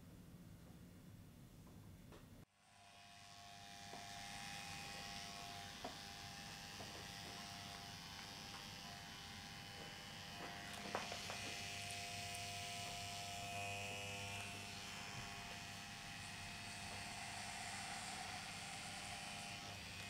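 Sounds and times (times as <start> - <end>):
electric hair clipper buzzing: 2.6 - 20.0.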